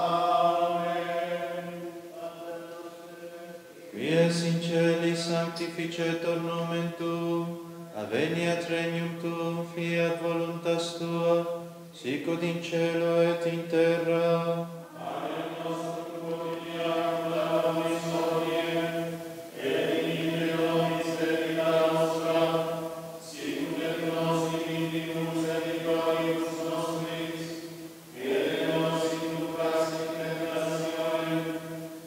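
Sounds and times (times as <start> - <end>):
men singing plainchant: 0.0 - 32.0.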